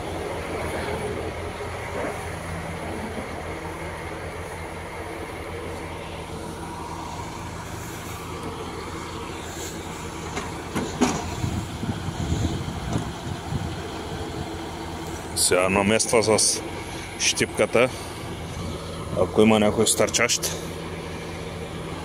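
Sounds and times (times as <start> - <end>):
diesel truck engine running: 0.0 - 22.0
uneven low rumbling: 0.0 - 22.0.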